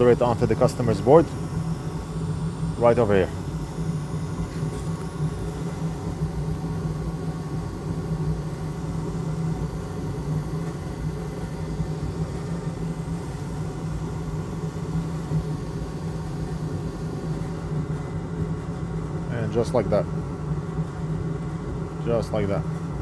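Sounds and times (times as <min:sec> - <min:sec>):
extractor fan humming: 0:00.0 - 0:23.0.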